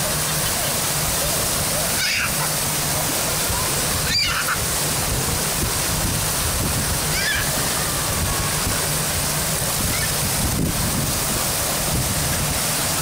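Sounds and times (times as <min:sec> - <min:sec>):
waves washing through shallow water: 0:00.0 - 0:13.0.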